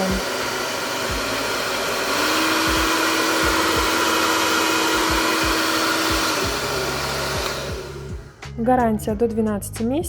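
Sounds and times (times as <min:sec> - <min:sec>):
hair dryer blowing: 0:00.0 - 0:08.5.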